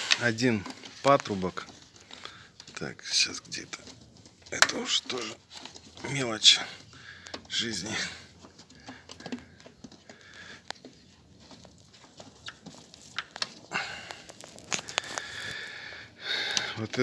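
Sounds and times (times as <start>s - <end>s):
hands rustling: 0.0s - 17.0s.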